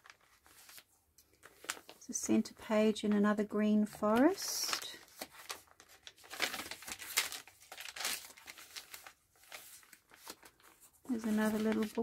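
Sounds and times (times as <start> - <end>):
paper pages rustling: 0.0 - 2.1, 3.8 - 12.0.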